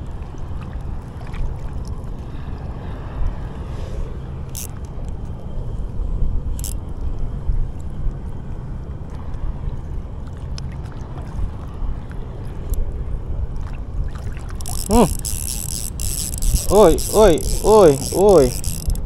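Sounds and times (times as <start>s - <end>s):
water at the sea's edge: 0.0s - 19.0s
wind: 0.0s - 19.0s.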